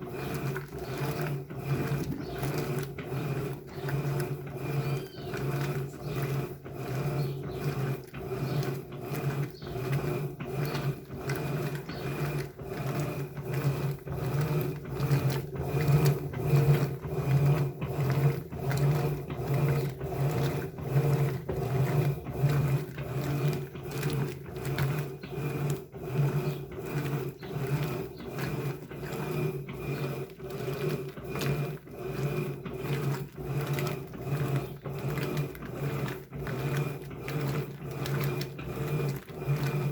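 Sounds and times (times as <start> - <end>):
agitator swishing: 0.0 - 39.9
washing machine motor hum: 0.0 - 39.9.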